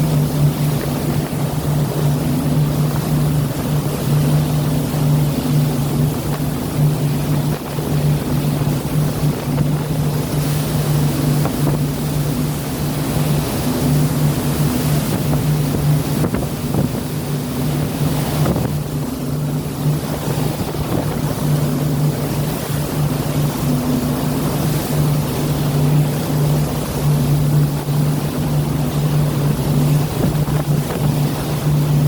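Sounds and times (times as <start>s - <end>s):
boat engine droning: 0.0s - 32.0s
sea water rushing: 0.0s - 32.0s
wind: 0.0s - 32.0s.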